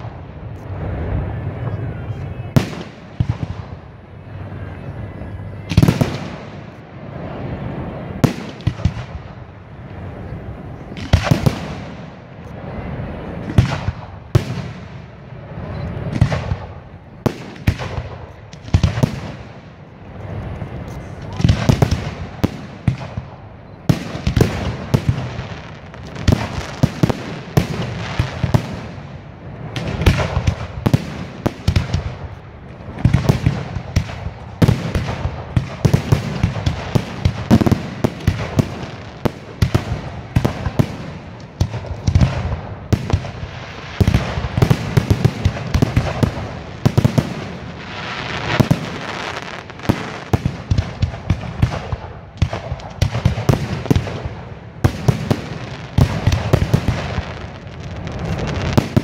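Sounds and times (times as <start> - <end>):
fireworks bangs and pops: 2.5 - 3.9, 5.6 - 7.6, 8.2 - 9.5, 10.8 - 59.0.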